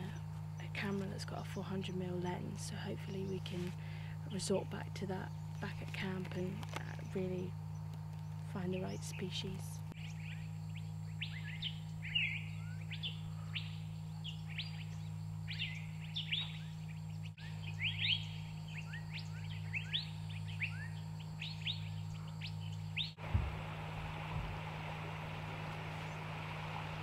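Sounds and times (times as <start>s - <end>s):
forest birds chirping: 0.0s - 27.0s
steady low hum: 0.0s - 27.0s.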